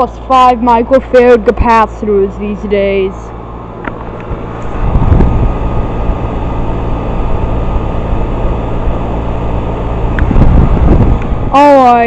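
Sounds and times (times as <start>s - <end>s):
compressor low hum: 0.0s - 12.0s
condenser fan rushing: 0.0s - 12.0s.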